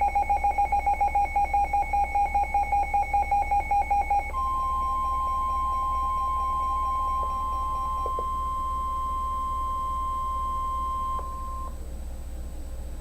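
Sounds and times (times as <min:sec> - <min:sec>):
high alarm tone: 0:00.0 - 0:11.7
lower alarm tone: 0:00.0 - 0:11.8
low electrical hum: 0:00.0 - 0:13.0.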